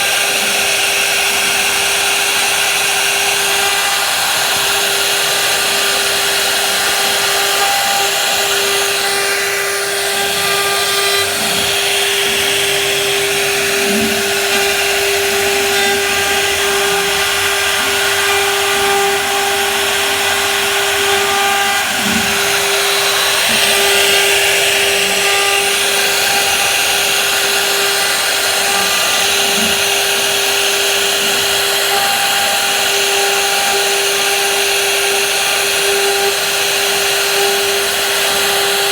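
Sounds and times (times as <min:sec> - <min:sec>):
hiss of cutting wood: 0:00.0 - 0:38.9
power tool motor whine: 0:00.0 - 0:38.9.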